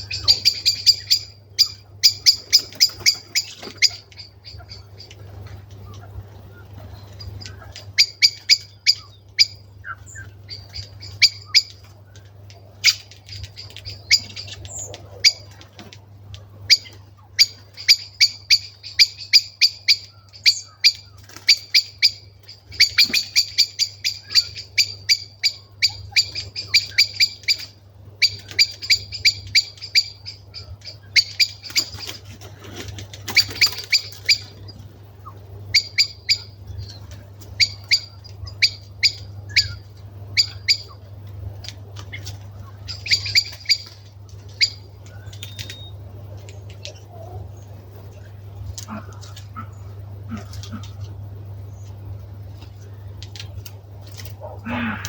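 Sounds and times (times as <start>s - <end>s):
birds giving tick calls: 0.0s - 55.0s.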